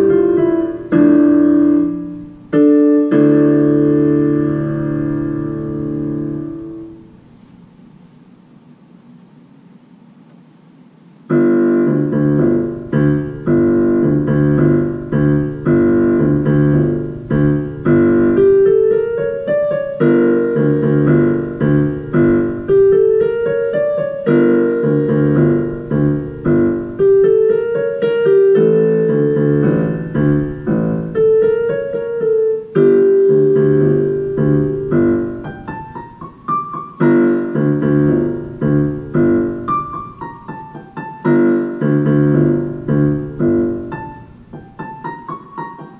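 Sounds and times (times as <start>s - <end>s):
digital keyboard piano piece: 0.0s - 7.4s, 11.3s - 45.9s.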